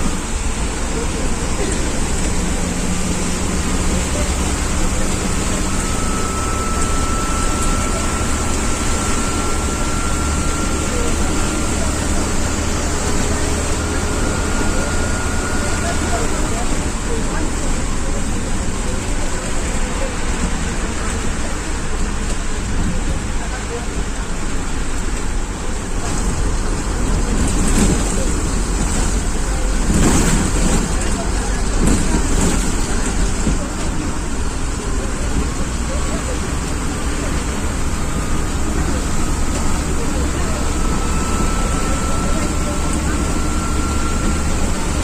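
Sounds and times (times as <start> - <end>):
diesel bus engine drone: 0.0 - 45.0
rain and wet road noise: 0.0 - 45.0.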